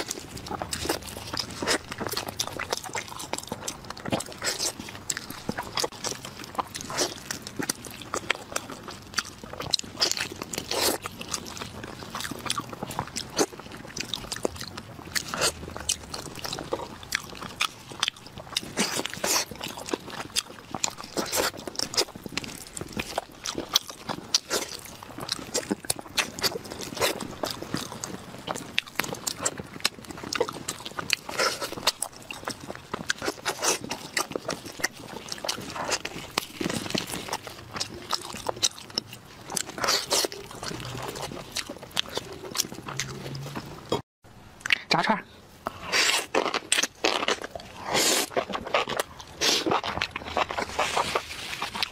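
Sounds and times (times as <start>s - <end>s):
meat being chewed: 0.0s - 44.0s, 45.6s - 51.9s.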